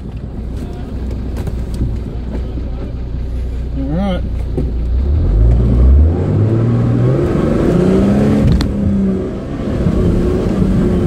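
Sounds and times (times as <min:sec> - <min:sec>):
off-road vehicle engine under load: 0:00.0 - 0:11.0.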